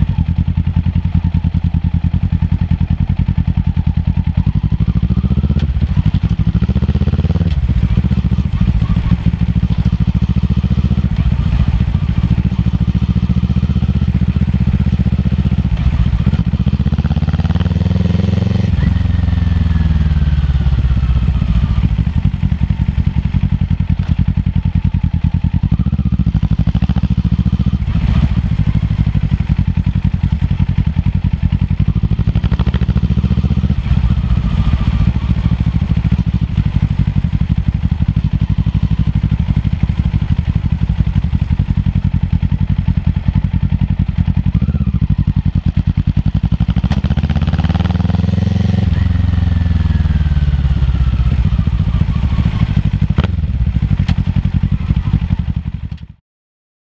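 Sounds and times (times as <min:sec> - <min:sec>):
motorcycle engine running: 0:00.0 - 0:56.2.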